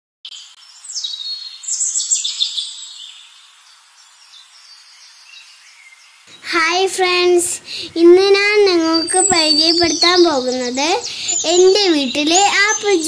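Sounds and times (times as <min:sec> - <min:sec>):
birds calling and chirping: 0:00.3 - 0:13.0.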